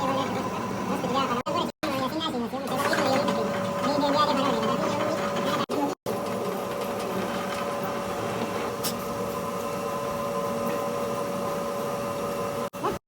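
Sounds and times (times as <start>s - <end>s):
machine whining: 0.0s - 13.0s.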